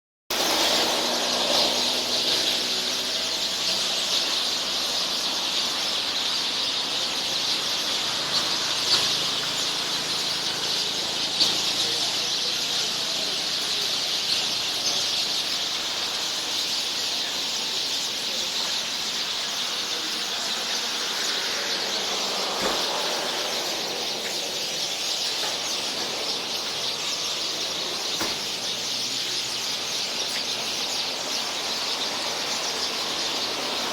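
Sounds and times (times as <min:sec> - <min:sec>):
flock of birds chattering: 0:00.4 - 0:33.9.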